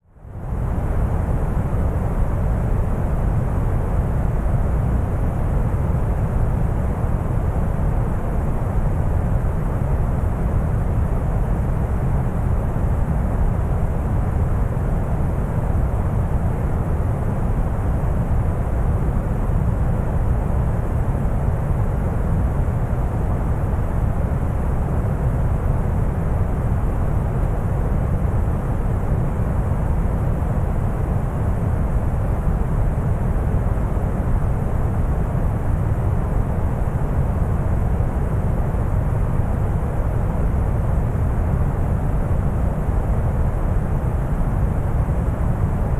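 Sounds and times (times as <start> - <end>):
deep brown noise rumble: 0.2 - 45.9.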